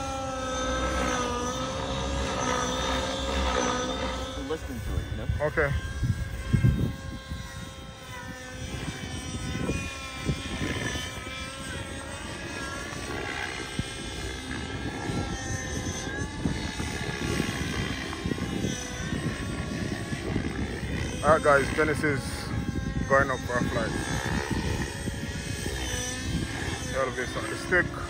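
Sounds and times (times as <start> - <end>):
model helicopter whine: 0.0 - 28.0.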